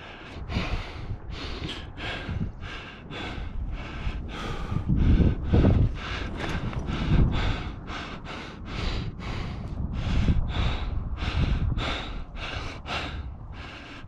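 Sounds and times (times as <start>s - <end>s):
low rumble: 0.0s - 14.0s
person panting hard: 0.0s - 14.0s.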